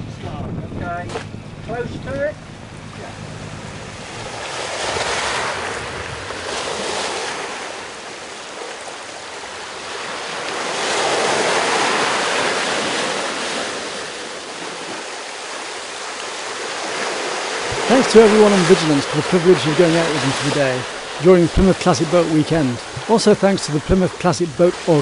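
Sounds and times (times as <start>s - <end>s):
sea water surging: 2.4s - 25.0s.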